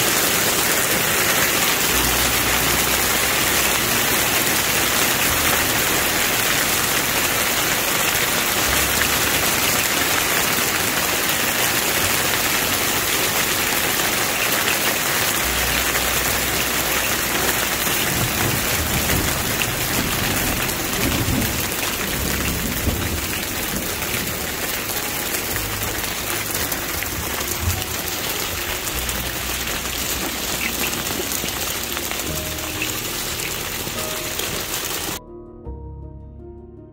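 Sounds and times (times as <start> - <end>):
hail and rain falling hard: 0.0 - 35.2.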